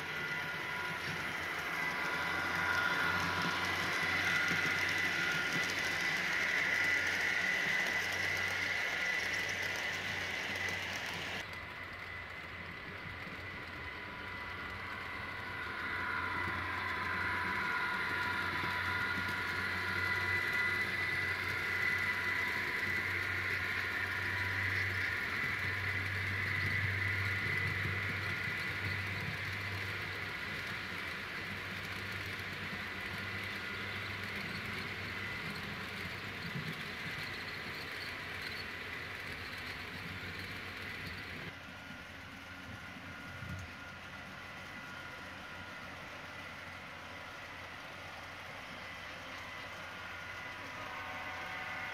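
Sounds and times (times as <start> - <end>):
model train running past: 0.0 - 51.9.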